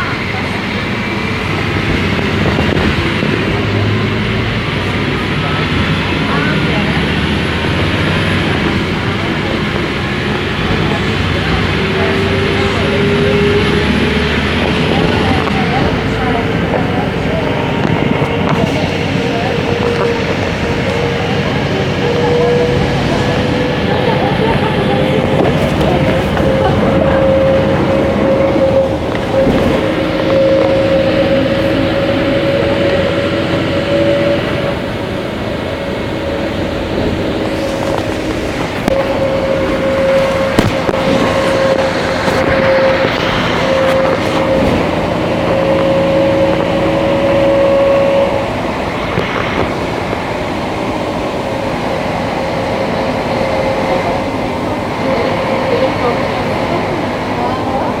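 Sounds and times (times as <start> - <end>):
bus engine and drivetrain noise: 0.0 - 58.0
high whine: 0.0 - 58.0.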